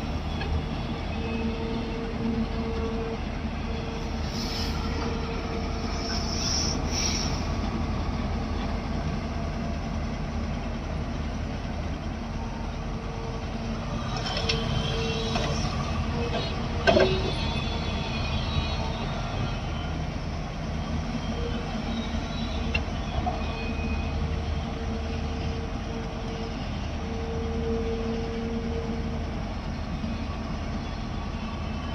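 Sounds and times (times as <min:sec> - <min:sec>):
diesel engine running: 0:00.0 - 0:31.9
whine: 0:00.0 - 0:31.9.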